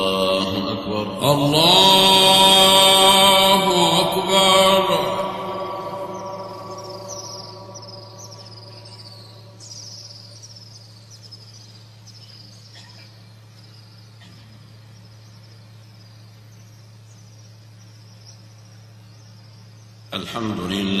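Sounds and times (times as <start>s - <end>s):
steady low hum: 0.0s - 21.0s
small birds chirping: 1.2s - 20.6s.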